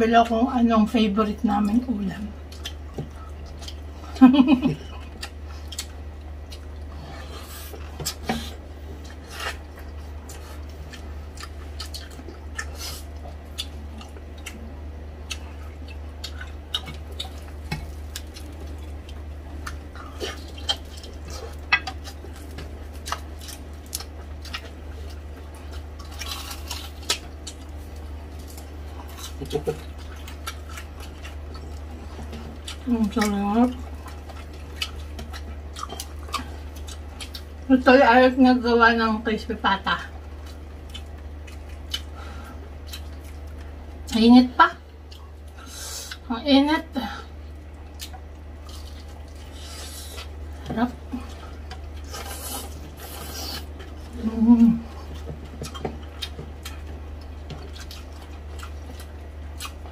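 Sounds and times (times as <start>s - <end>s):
crispy food crackling: 0.0s - 59.9s
steady low hum: 0.0s - 59.9s
chewing: 1.6s - 37.9s, 40.1s - 44.2s, 44.8s - 46.3s, 47.2s - 59.9s.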